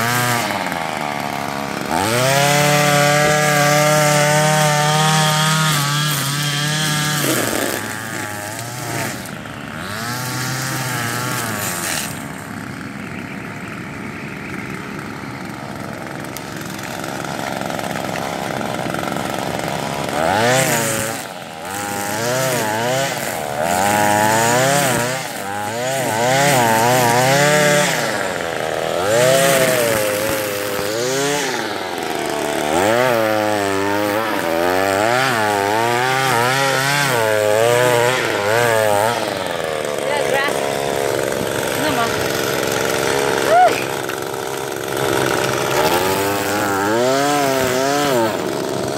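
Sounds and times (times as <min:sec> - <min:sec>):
string trimmer revving: 0:00.0 - 0:48.9.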